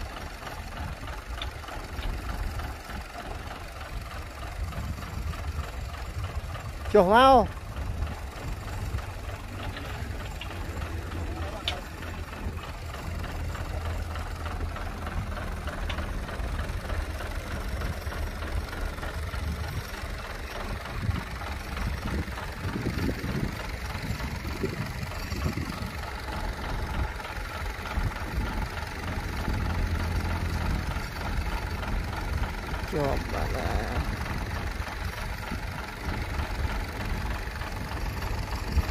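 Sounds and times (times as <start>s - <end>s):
heavy diesel engine idling: 0.0s - 38.9s.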